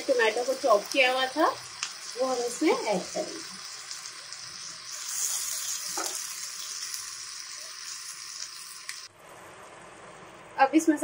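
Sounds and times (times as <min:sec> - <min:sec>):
tomato sizzling in hot oil: 0:00.0 - 0:09.8.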